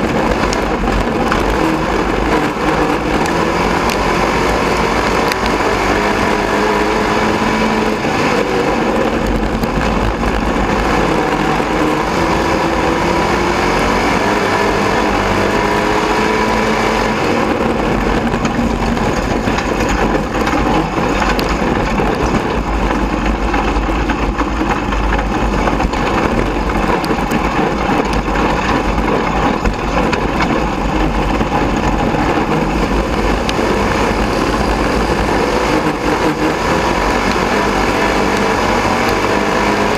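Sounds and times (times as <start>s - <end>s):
race car engine rough: 0.0s - 39.9s
rattle and rumble: 0.0s - 39.9s.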